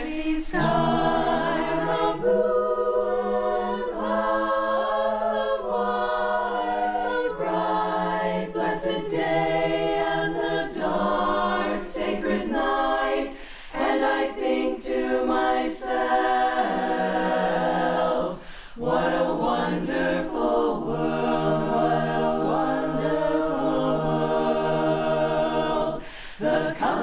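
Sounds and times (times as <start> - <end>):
women's chorus singing a cappella: 0.0 - 27.0.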